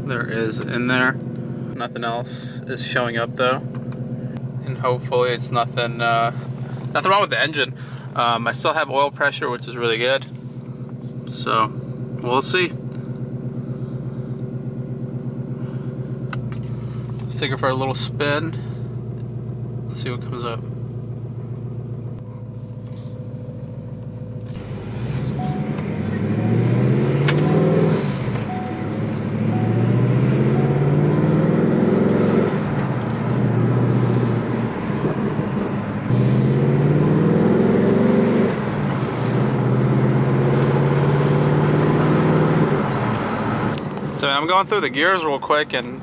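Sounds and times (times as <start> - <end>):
car engine accelerating through gears: 0.0 - 8.2, 10.3 - 44.7.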